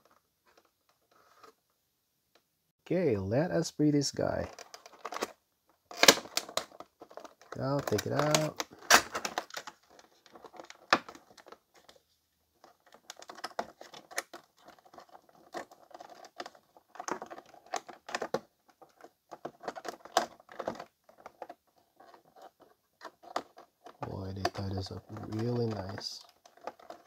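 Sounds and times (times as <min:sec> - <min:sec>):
plastic packaging crinkling: 0:04.4 - 0:27.0.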